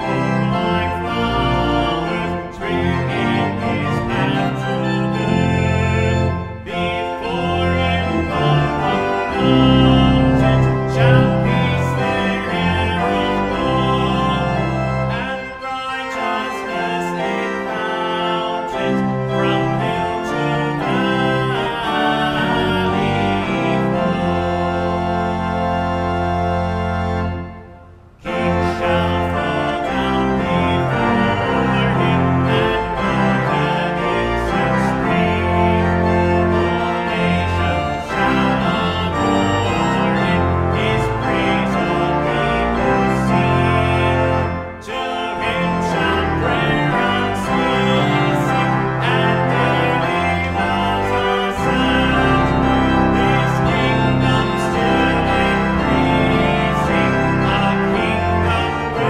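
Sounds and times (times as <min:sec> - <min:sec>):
organ playing a hymn: 0:00.0 - 0:59.0.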